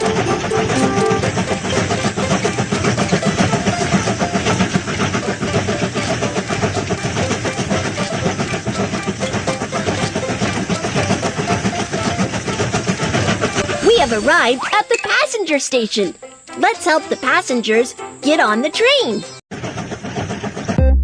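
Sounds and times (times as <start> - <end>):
cartoon train chugging: 0.0 - 21.0.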